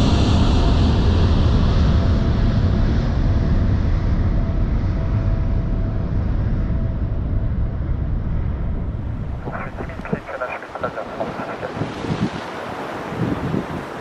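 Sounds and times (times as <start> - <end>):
jet engines rumbling: 0.1 - 14.0.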